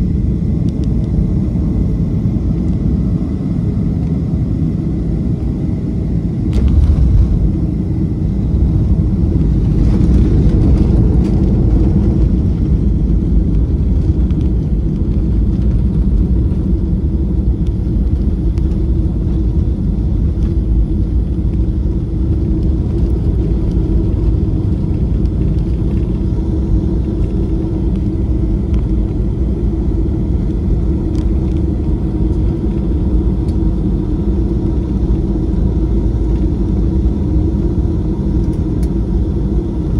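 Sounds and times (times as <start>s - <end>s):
jet engines at low thrust: 0.0s - 39.9s.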